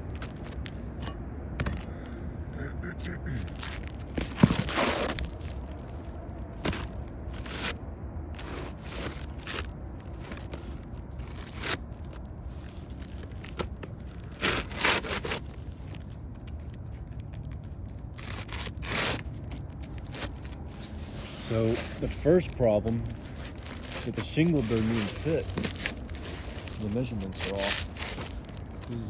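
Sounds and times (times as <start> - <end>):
shingles scraping and rustling: 3.5 - 29.0.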